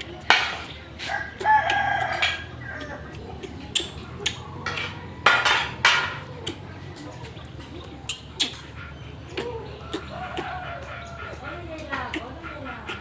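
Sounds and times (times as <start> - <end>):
pots and basins clattering: 0.0 - 13.0.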